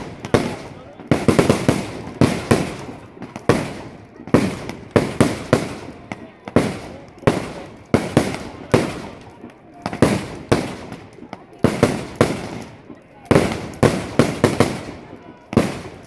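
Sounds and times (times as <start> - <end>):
fireworks bursting with bangs: 0.0 - 16.0.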